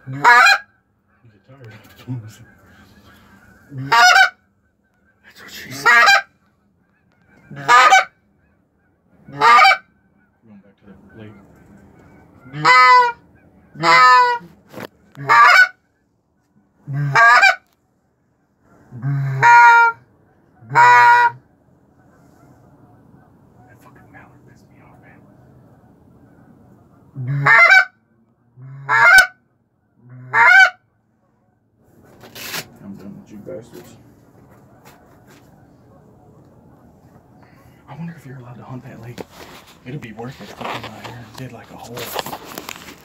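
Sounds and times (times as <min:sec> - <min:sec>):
geese honking: 0:00.0 - 0:43.0.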